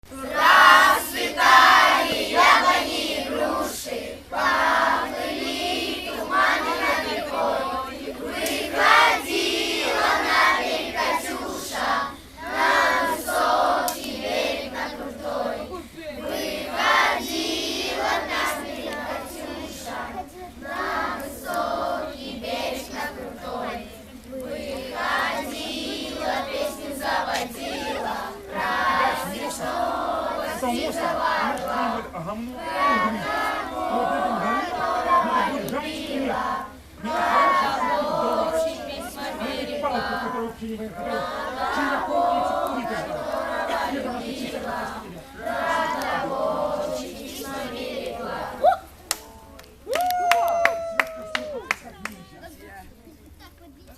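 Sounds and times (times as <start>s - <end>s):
children singing in chorus: 0.1s - 48.6s.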